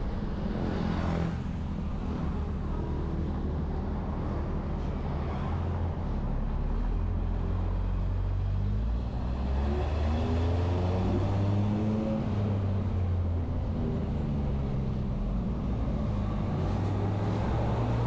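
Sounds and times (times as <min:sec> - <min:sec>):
vehicle engines running: 0:00.0 - 0:18.0.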